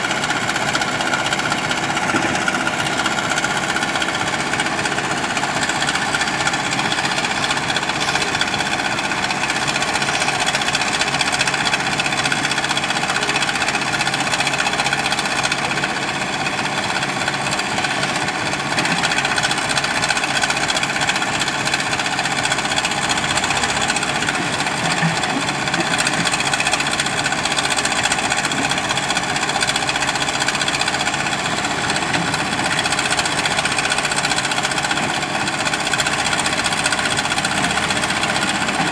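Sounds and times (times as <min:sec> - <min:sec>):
diesel engine running under load: 0:00.0 - 0:38.9
backhoe digging gravel: 0:00.1 - 0:38.9.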